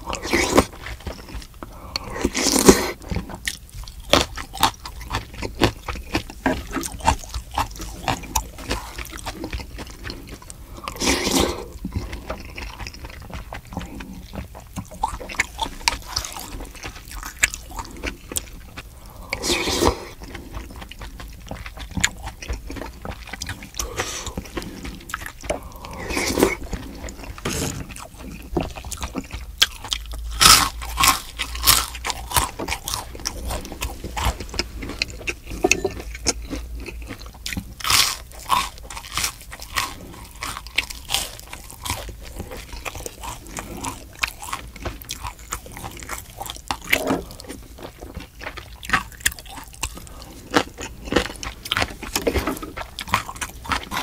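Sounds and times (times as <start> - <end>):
crunching and chewing fried fish: 0.0 - 54.0.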